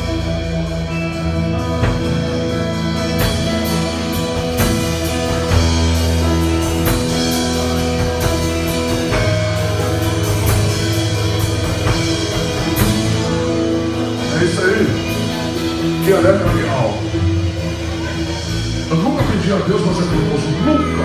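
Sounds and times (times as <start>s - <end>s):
drum kit and cymbal hits: 0.0s - 21.0s
worship band playing: 0.0s - 21.0s.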